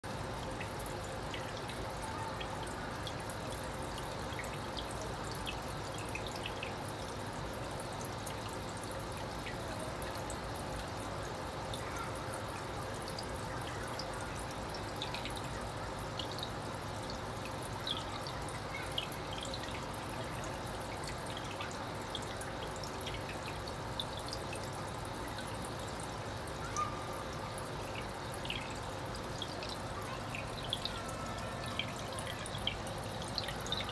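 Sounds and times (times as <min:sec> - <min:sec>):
small water drips: 0:00.0 - 0:33.9
water trickling: 0:00.0 - 0:33.9.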